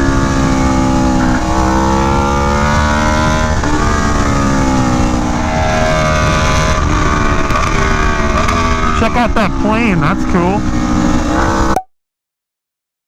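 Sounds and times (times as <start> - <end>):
motorcycle engine pulling hard: 0.0 - 11.8.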